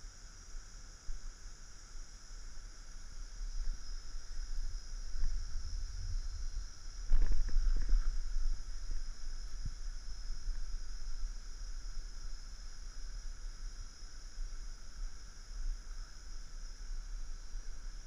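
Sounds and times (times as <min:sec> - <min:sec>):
high hiss of outdoor ambience: 0:00.0 - 0:18.0
wind rumbling on microphone: 0:03.2 - 0:18.0.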